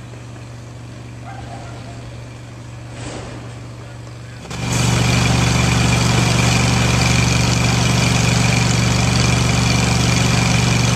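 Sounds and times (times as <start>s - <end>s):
truck engine running: 0.0s - 10.9s.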